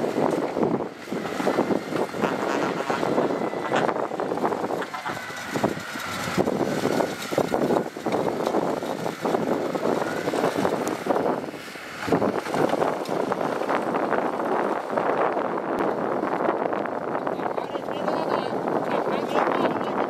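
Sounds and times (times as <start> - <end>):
diesel engine clattering: 0.0 - 20.0.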